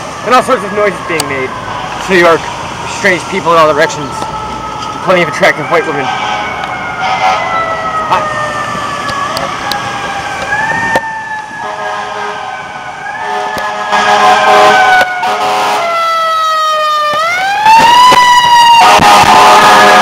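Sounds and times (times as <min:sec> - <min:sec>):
fire engine siren wailing: 0:00.0 - 0:20.0.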